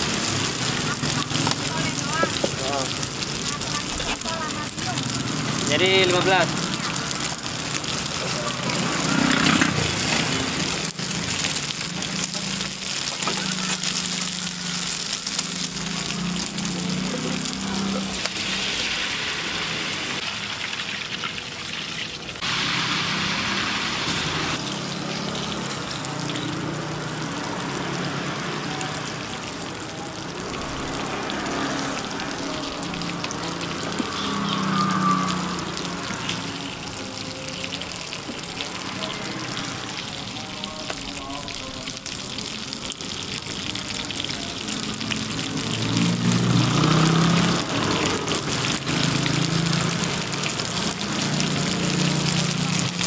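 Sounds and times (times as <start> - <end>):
egg and oil sizzling in a pan: 0.0 - 53.0.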